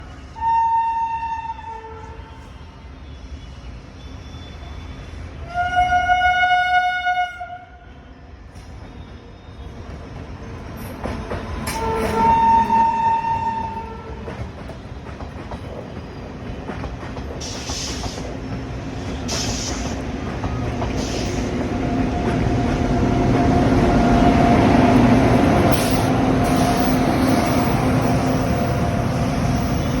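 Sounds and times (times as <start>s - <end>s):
train rumble and wheel noise: 0.0s - 30.0s.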